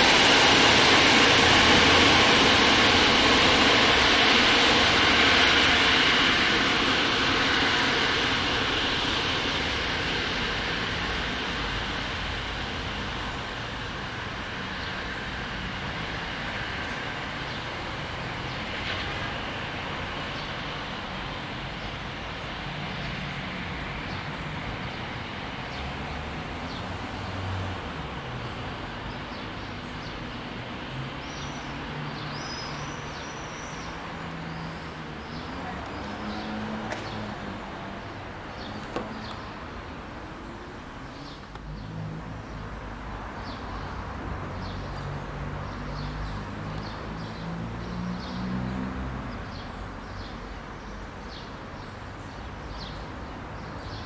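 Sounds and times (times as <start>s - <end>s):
vehicle engines rumbling: 0.0s - 54.0s.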